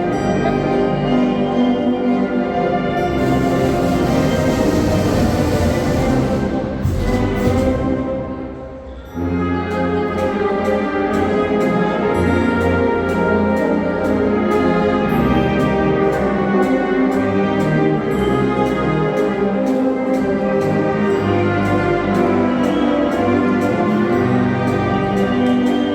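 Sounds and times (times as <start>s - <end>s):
wind band playing: 0.0s - 25.9s
percussion beat: 3.1s - 25.9s.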